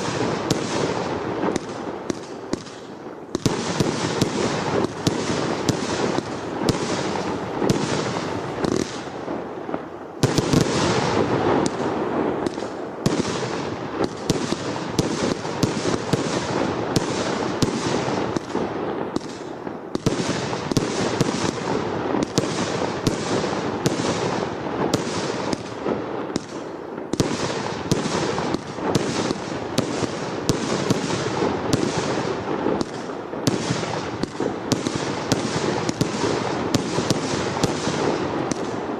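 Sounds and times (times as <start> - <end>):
firework bangs and crackles: 0.0 - 38.9.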